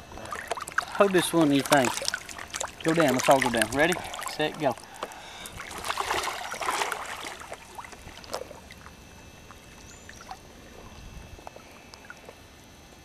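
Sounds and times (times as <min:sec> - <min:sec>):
water drips and splashes: 0:00.0 - 0:12.4
water lapping: 0:00.0 - 0:12.5.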